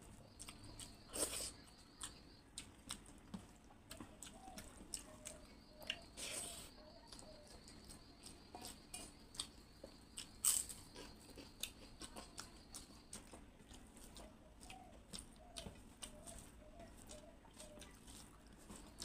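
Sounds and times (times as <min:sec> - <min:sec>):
person chewing: 0:00.3 - 0:19.0.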